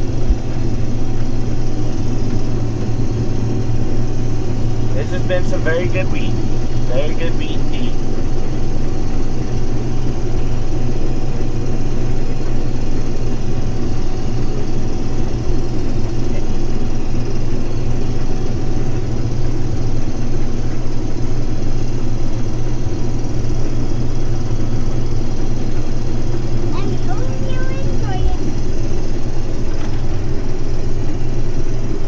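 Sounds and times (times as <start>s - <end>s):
combine harvester running: 0.0s - 32.0s.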